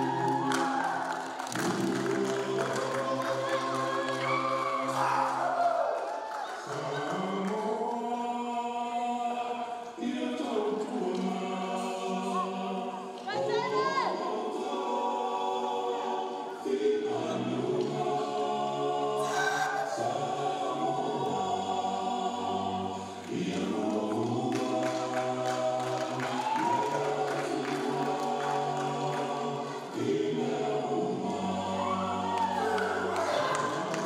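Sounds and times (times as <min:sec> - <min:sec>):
men singing in harmony: 0:00.0 - 0:05.4, 0:06.6 - 0:13.2, 0:14.1 - 0:34.0.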